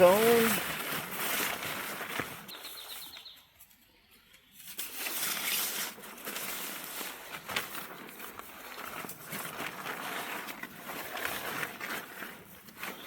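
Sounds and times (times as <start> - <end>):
camping gear and fabric rustling: 0.0 - 13.0.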